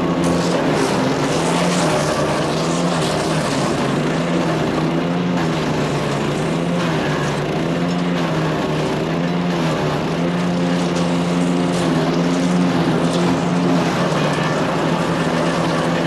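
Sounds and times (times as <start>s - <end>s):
chipper shredder engine running: 0.0s - 16.0s.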